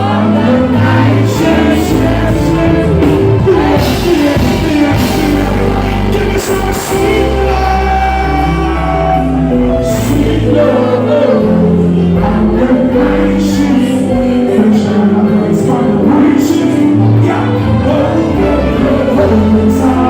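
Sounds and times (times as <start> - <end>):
strong bass line: 0.0 - 20.0.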